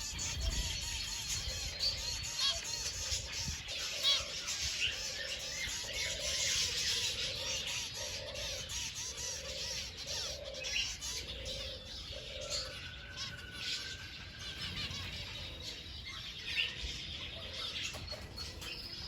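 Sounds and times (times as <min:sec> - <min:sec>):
chorus of high chirps: 0:00.0 - 0:17.2.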